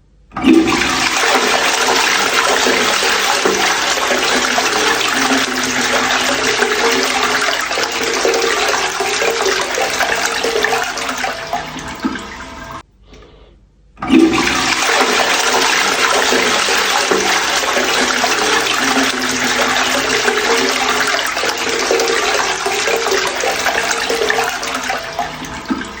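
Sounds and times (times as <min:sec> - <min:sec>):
toilet flushing: 0:00.1 - 0:12.8, 0:14.0 - 0:26.0.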